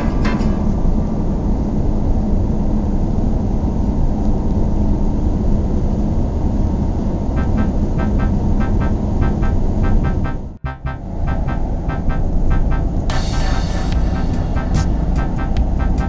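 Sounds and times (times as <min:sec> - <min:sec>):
car interior road and engine noise: 0:00.0 - 0:16.0.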